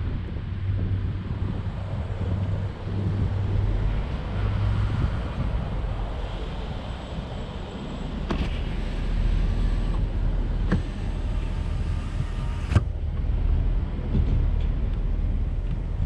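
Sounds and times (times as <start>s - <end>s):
vehicle rolling slowly: 0.0s - 16.0s.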